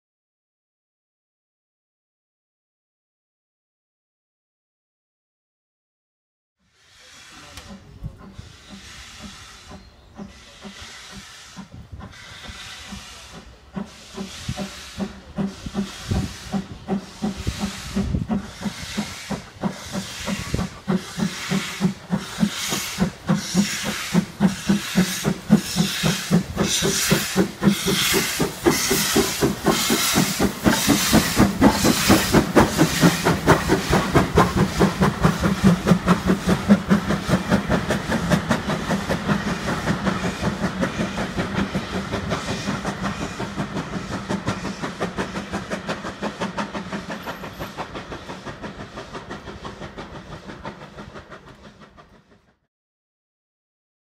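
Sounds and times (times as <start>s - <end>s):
steam locomotive exhaust chuffs: 6.7s - 52.7s.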